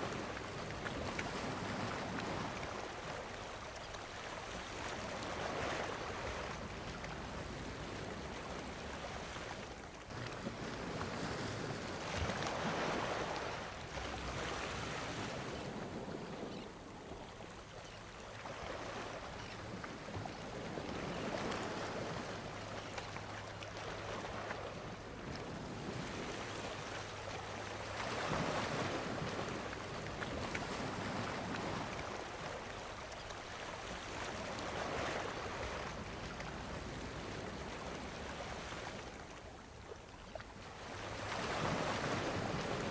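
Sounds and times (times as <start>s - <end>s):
gentle surf on sandy shore: 0.0s - 42.9s
wind: 0.0s - 42.9s.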